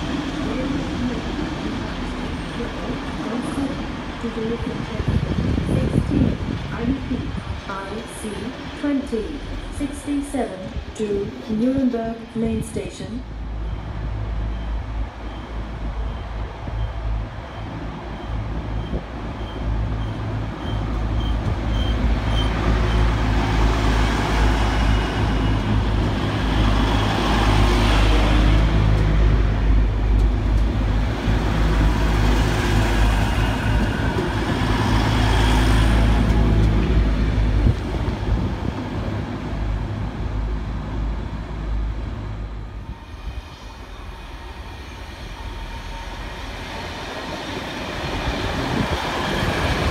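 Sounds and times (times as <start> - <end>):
diesel train engine drone: 0.0 - 49.9
train wheel noise: 0.0 - 49.9.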